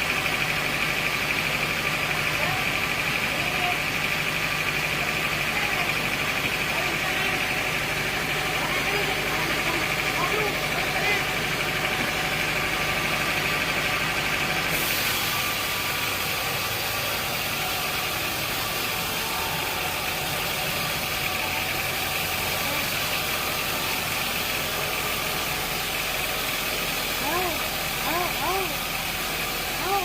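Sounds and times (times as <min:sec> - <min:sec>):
sawmill machinery humming: 0:00.0 - 0:30.0.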